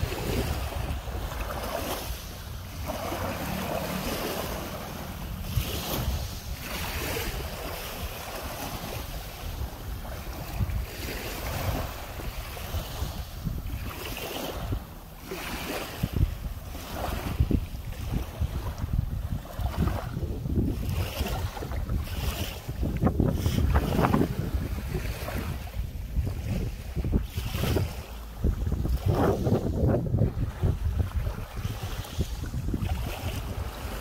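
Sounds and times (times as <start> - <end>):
small waves on gravel shore: 0.0 - 34.0
wind buffeting microphone: 0.0 - 34.0.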